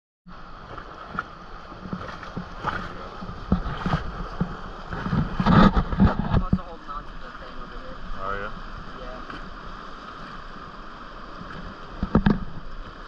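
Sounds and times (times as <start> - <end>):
rushing river water: 0.3 - 13.0
knocks and splashes against raft: 0.5 - 13.0.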